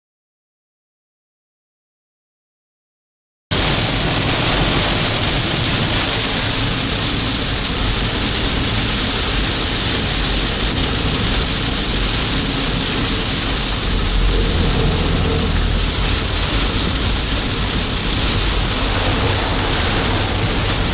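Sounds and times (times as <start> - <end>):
heavy rain hitting car: 3.5 - 20.9
low road rumble: 3.6 - 20.9.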